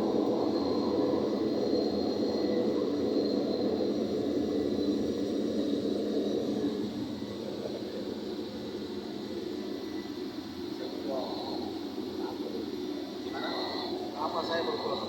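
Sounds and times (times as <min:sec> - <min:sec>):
turboprop engine drone: 0:00.0 - 0:15.0.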